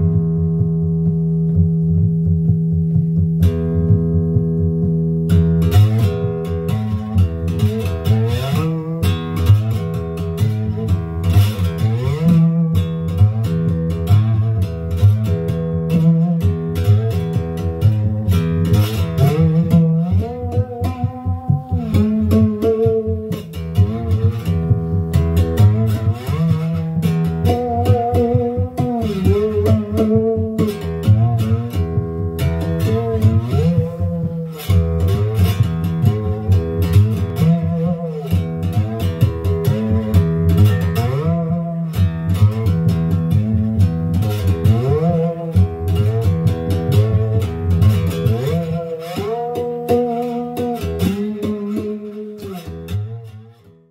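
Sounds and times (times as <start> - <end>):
slide guitar notes: 0.0 - 53.9.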